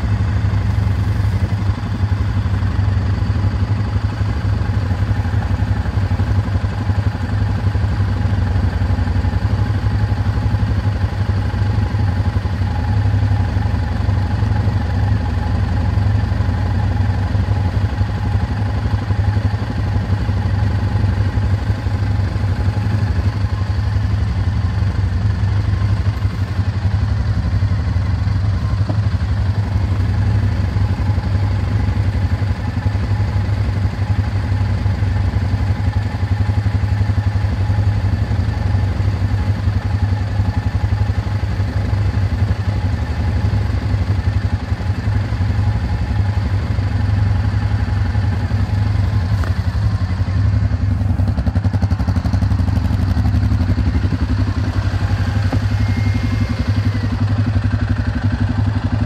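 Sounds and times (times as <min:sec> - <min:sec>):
atv engine idling: 0:00.0 - 0:59.0.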